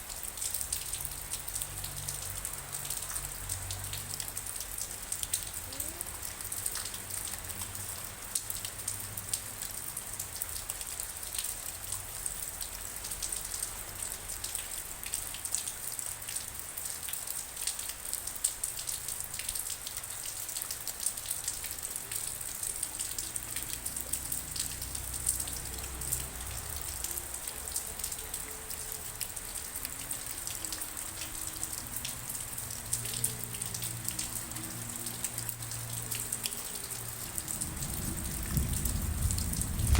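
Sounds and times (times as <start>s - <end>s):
raindrops ticking on a hard surface: 0.0s - 39.9s
steady rain hissing: 0.0s - 39.9s.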